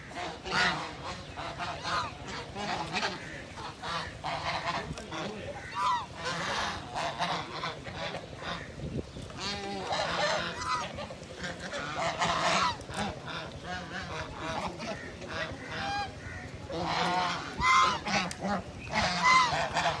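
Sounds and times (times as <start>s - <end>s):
geese honking: 0.0s - 8.8s, 9.4s - 20.0s.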